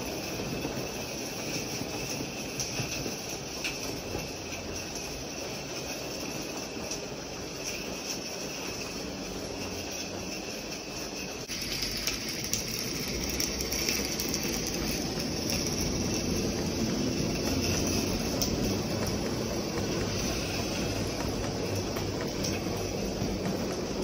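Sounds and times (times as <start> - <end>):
steam hissing: 0.0 - 24.0
wheels rumbling on track: 0.0 - 24.0.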